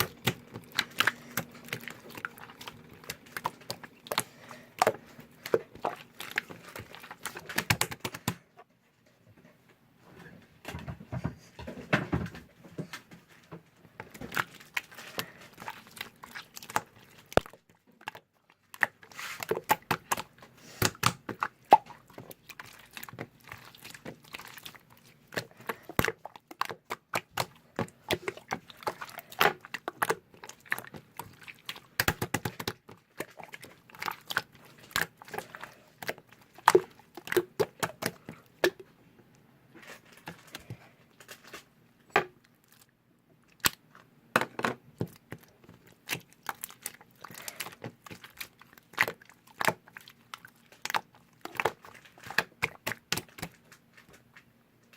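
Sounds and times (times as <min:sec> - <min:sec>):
crinkling and rustling: 0:00.0 - 0:54.9.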